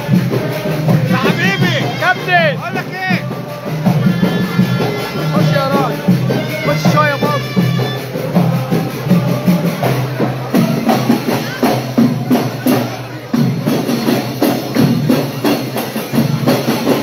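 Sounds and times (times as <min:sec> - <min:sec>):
voices: 0:00.0 - 0:17.0
wedding music with fast percussion: 0:00.0 - 0:17.0.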